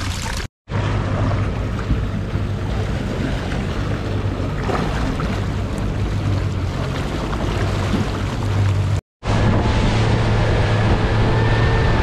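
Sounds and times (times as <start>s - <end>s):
water rushing past hull: 0.0s - 12.0s
boat engine humming: 0.7s - 12.0s.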